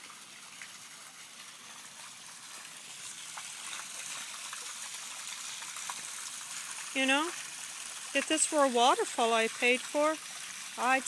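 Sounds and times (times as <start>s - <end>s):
water gushing and splashing: 0.0s - 11.0s.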